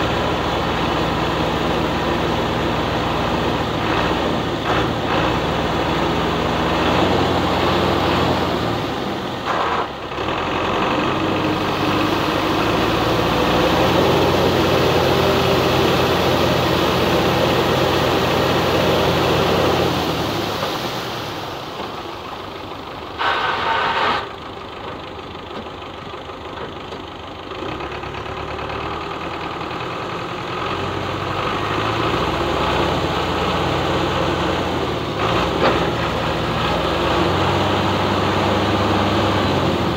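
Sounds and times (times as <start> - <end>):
tyres churning through mud: 0.0 - 24.9, 26.7 - 39.9
tractor engine under load: 0.0 - 39.9.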